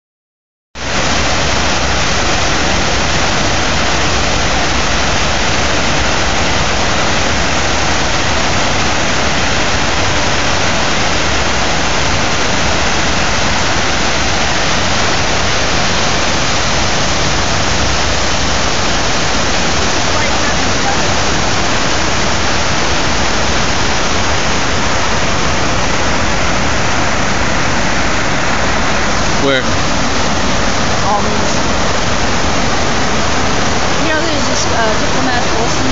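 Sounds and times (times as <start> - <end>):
waterfall pouring into basin: 0.8 - 35.9.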